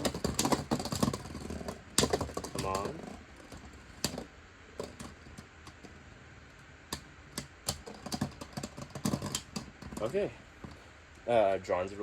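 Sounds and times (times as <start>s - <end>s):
spinning tops clicking in plastic stadium: 0.0s - 10.2s.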